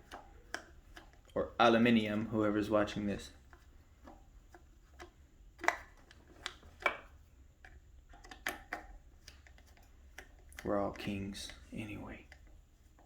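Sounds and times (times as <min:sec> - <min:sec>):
hand tools clicking and tapping: 0:00.0 - 0:01.4, 0:02.1 - 0:12.5.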